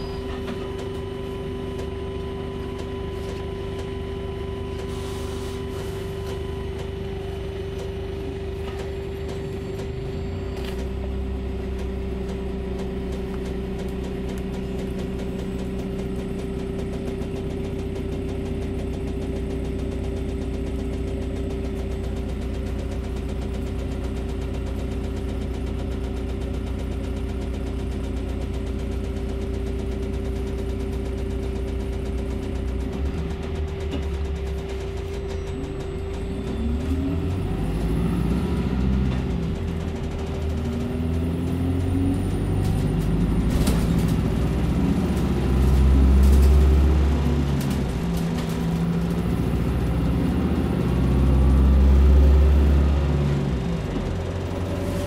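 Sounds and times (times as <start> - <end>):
bus whine: 0.0 - 55.0
diesel engine drone: 0.0 - 55.0.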